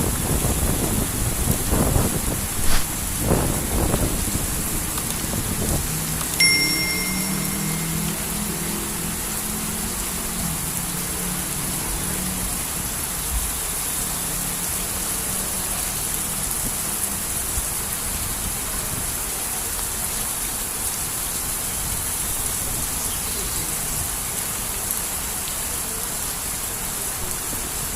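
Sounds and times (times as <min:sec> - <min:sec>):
heavy rain pouring: 0:00.0 - 0:27.9.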